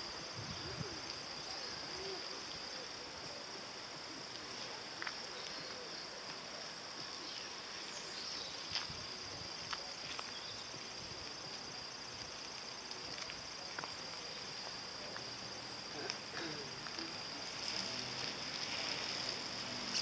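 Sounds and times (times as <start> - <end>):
quiet outdoor background noise: 0.0 - 20.0.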